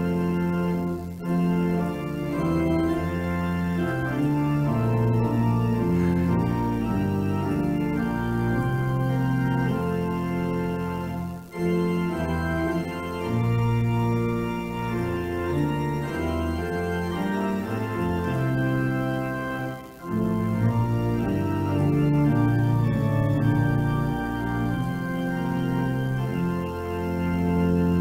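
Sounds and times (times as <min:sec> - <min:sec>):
church organ chords: 0:00.0 - 0:28.0.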